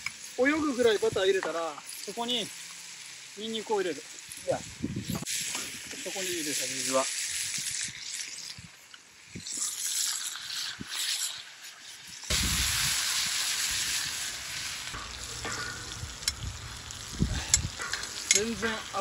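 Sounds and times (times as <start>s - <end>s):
steak sizzling in butter: 0.0s - 19.0s.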